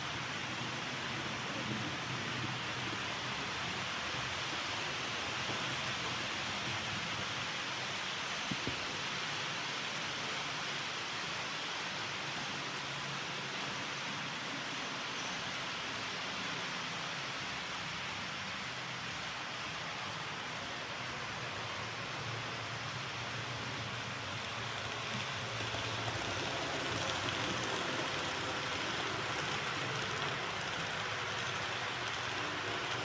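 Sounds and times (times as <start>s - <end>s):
model train wheels and motors whirring: 0.0s - 33.0s.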